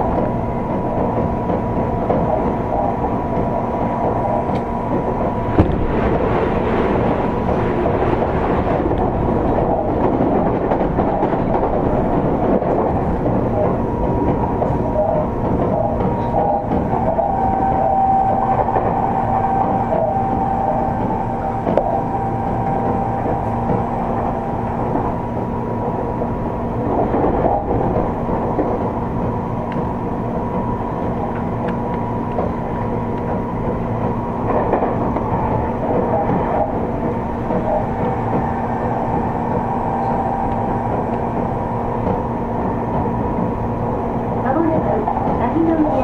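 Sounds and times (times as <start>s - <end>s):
faint track knocks: 0.0s - 46.0s
motor and air conditioning hum: 0.0s - 46.0s
train wheels rumbling on rail: 0.0s - 46.0s.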